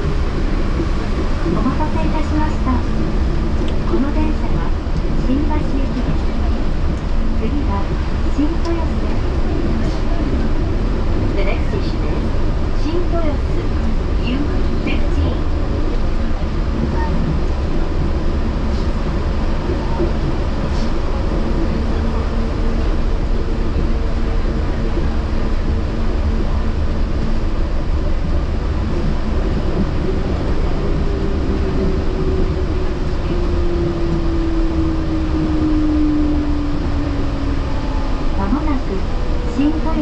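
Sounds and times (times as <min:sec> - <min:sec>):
train rumbling on guideway: 0:00.0 - 0:40.0.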